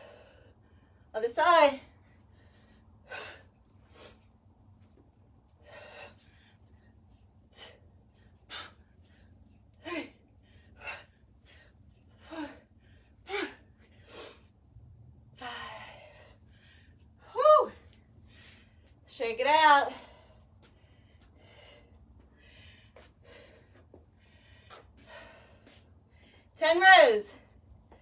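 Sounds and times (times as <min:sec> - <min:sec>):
woman breathing forcefully: 0:00.0 - 0:01.1, 0:01.9 - 0:04.6, 0:05.3 - 0:19.0, 0:19.9 - 0:26.6
steady low hum: 0:00.0 - 0:28.0.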